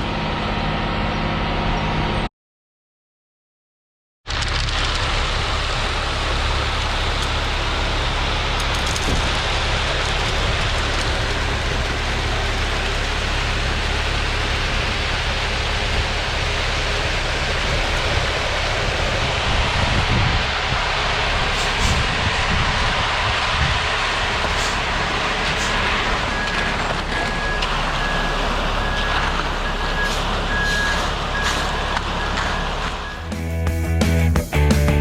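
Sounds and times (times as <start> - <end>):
concrete mixer truck engine drone: 0.0 - 2.3, 4.3 - 33.5.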